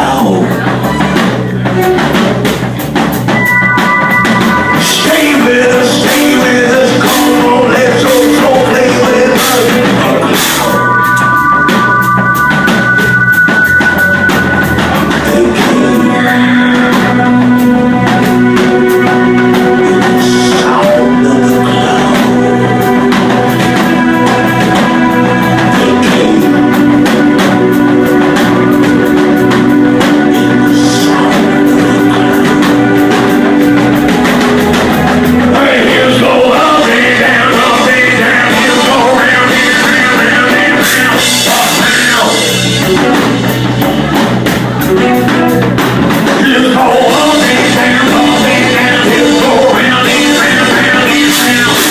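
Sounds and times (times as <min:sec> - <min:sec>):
band music: 0:00.0 - 0:51.9
steady drum beat: 0:00.0 - 0:51.9
person singing long notes: 0:03.4 - 0:43.5, 0:44.8 - 0:51.9.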